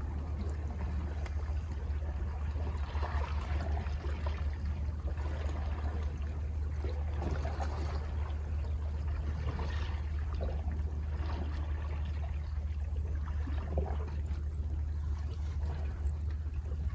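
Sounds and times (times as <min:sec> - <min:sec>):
calm sea waves washing: 0:00.0 - 0:16.9
steady low rumble: 0:00.0 - 0:16.9.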